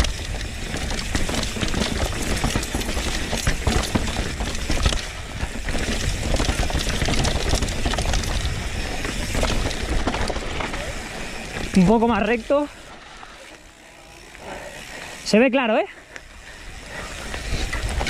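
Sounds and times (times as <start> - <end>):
bike rattling over dirt: 0.0 - 18.0.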